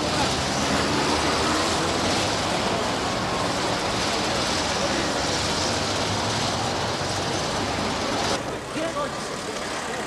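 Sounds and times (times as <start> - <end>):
street noise with low rumble: 0.0 - 10.0.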